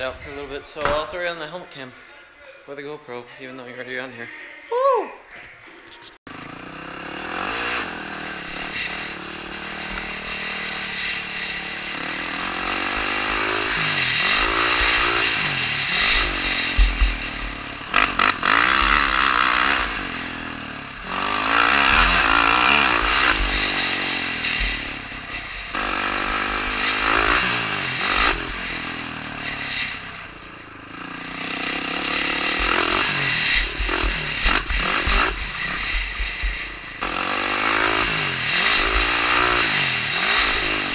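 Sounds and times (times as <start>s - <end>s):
dirt bike engine revving: 6.3s - 40.9s.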